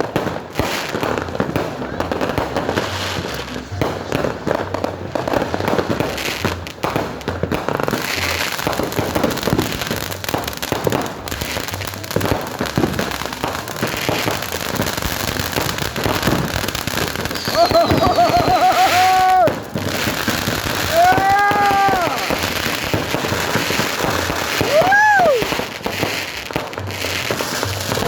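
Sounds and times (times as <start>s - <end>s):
fireworks and firecrackers banging: 0.0s - 28.0s.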